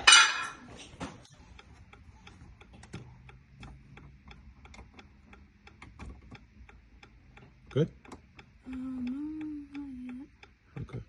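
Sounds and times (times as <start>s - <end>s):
hazard light flasher ticking: 1.6s - 11.0s.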